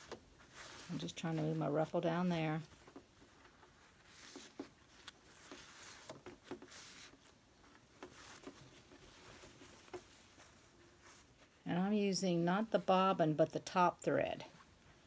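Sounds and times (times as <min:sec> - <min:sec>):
fabric rustling: 0:00.0 - 0:13.4, 0:14.1 - 0:15.0.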